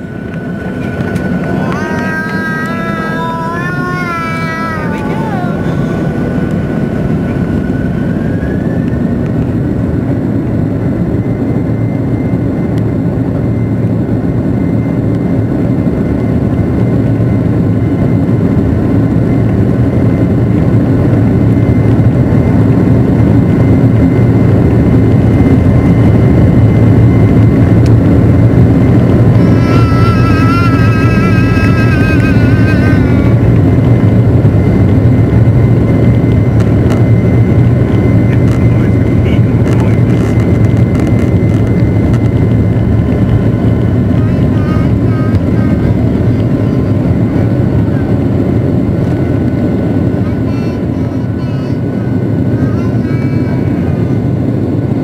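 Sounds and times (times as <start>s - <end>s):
high engine whine: 0.0s - 55.0s
jet engine rumble: 0.0s - 55.0s.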